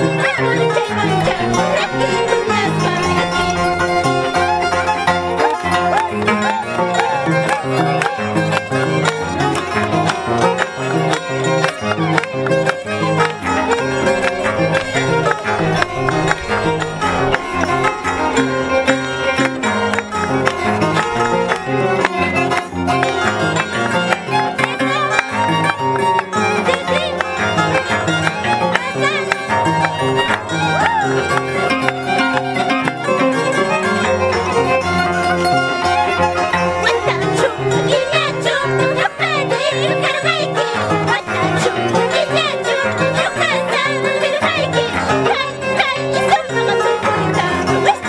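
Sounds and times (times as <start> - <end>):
folk violin melody: 0.0 - 48.0
plucked strings accompaniment: 0.0 - 48.0.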